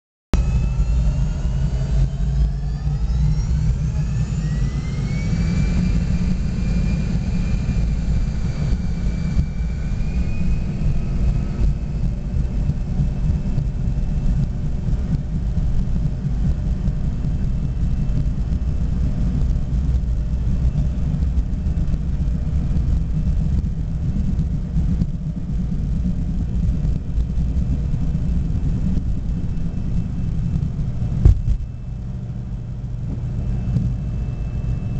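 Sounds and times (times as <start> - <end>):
airliner take-off rumble: 0.4 - 34.9
turbofan engines whining: 0.4 - 34.9.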